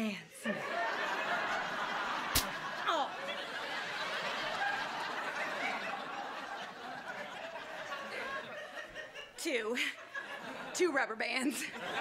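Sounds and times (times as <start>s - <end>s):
studio audience laughing: 0.4s - 12.0s.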